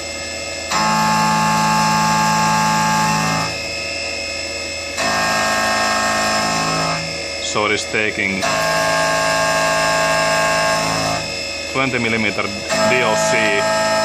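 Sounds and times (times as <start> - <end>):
milling machine cutting metal: 0.0 - 14.0.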